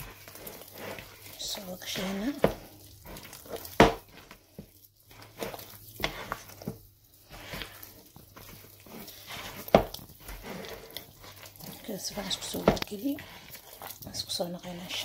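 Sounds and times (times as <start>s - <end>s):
dough squelching and slapping: 0.0s - 15.0s.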